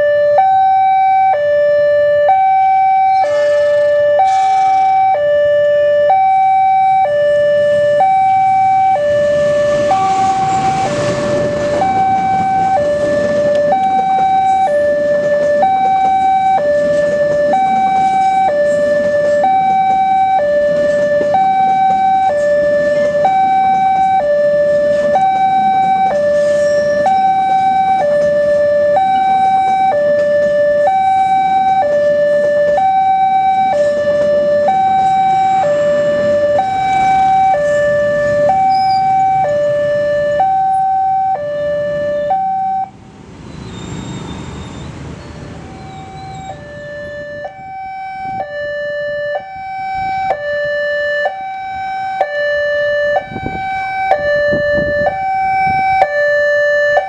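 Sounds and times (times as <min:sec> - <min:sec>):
two-tone crossing alarm: 0:00.0 - 0:57.0
passing train rumble: 0:01.5 - 0:57.0.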